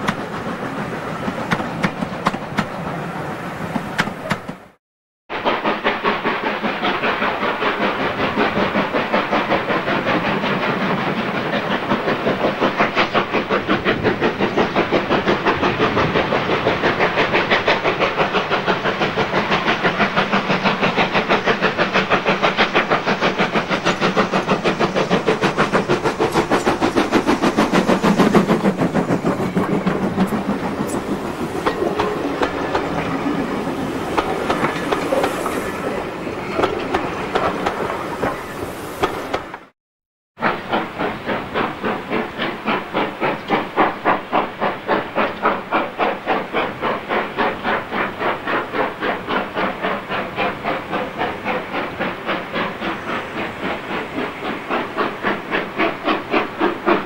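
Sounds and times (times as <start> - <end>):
steam locomotive exhaust beating: 0.0 - 39.7, 40.4 - 57.0.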